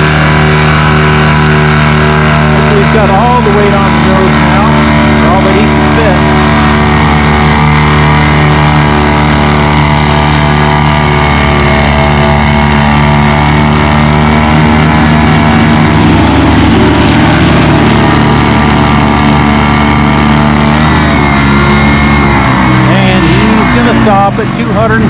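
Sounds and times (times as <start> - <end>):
tractor engine running under load: 0.0 - 25.0.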